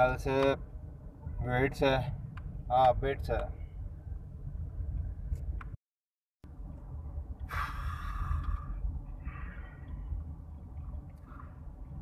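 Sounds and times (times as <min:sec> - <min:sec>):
car cabin road rumble: 0:00.0 - 0:05.8, 0:06.5 - 0:12.0.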